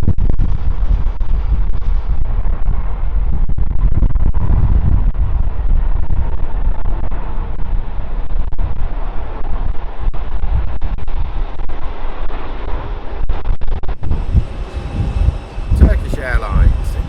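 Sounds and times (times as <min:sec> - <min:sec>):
jet engines deep rumble: 0:00.0 - 0:17.0.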